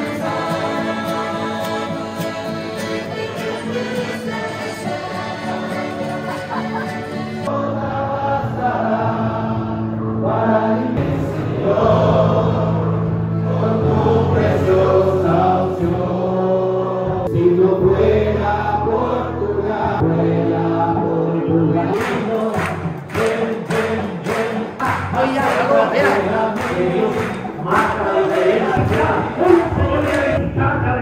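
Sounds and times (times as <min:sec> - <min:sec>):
voices singing a song: 0:00.0 - 0:31.0.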